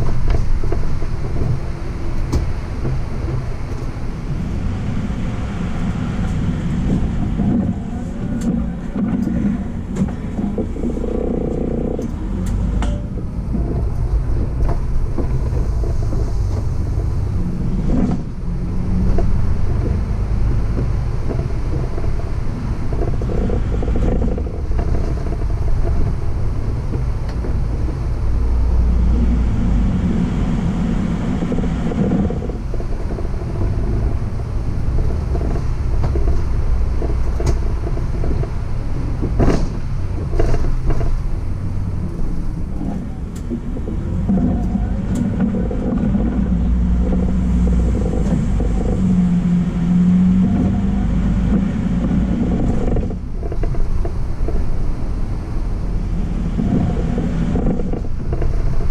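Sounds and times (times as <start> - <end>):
bus engine rumble: 0.0 - 58.9
road noise: 0.0 - 58.9.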